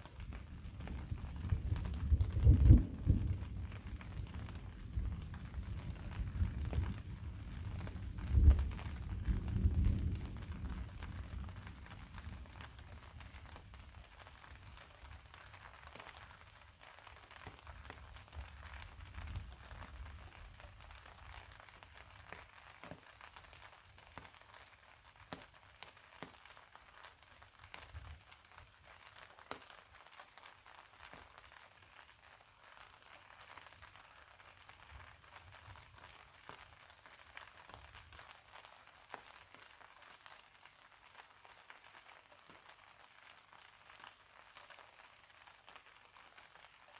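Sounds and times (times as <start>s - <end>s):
faint steady rainfall: 0.0s - 46.9s.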